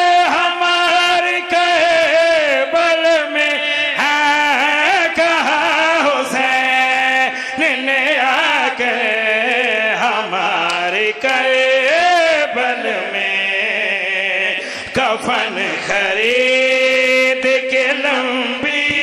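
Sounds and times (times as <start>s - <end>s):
amplified man chanting: 0.0s - 19.0s.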